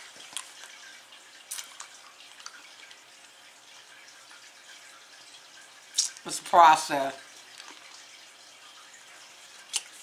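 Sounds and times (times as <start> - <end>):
aquarium filter water trickling: 0.0 - 10.0.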